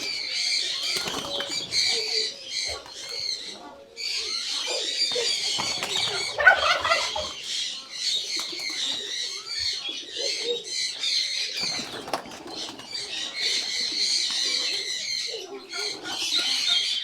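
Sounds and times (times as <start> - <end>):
pigeons chirping chatter: 0.0 - 17.0.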